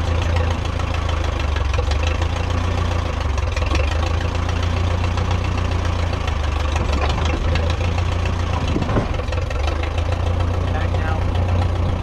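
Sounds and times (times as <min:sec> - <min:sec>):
crawler loader engine idling: 0:00.0 - 0:12.0.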